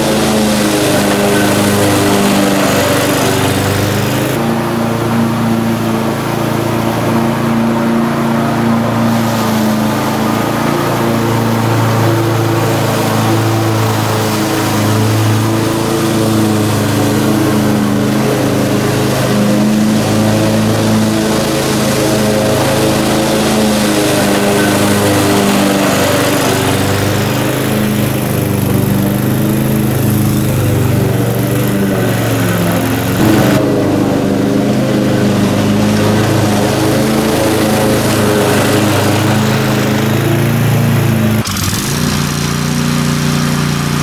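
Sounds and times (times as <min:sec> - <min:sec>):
riding mower cutting grass: 0:00.0 - 0:44.0.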